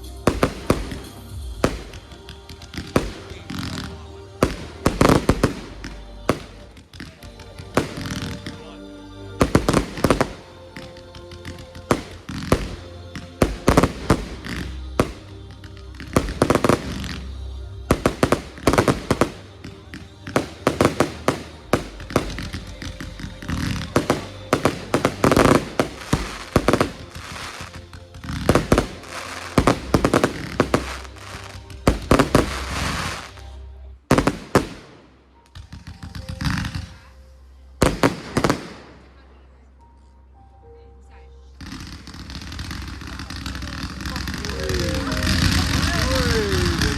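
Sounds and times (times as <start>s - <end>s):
music with steady bass: 0.0s - 35.0s, 41.4s - 46.9s
fireworks bangs and crackles: 0.1s - 8.7s, 9.4s - 37.0s, 37.8s - 39.0s, 41.6s - 46.9s.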